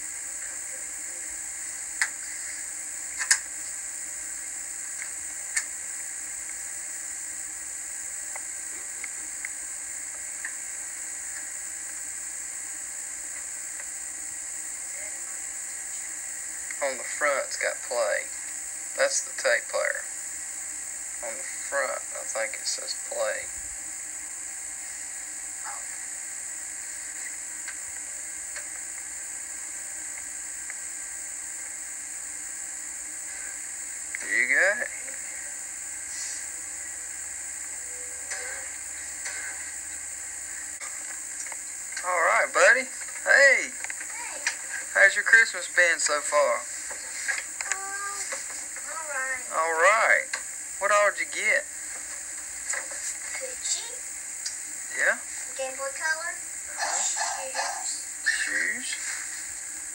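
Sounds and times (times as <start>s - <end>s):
videotape hiss: 0.0s - 59.9s.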